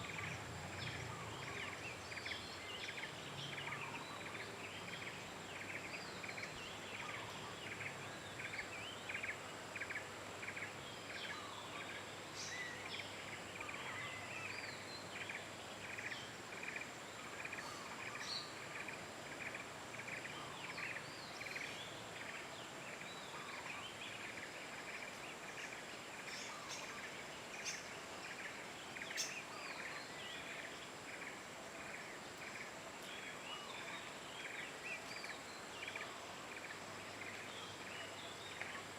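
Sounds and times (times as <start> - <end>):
soft hiss: 0.0 - 38.9.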